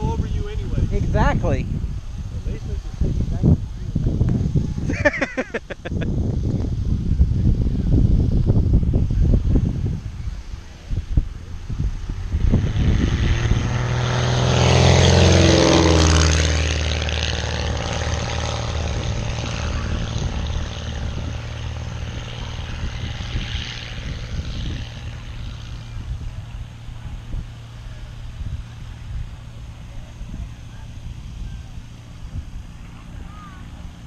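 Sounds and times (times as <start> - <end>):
propeller plane passing: 0.0 - 34.0.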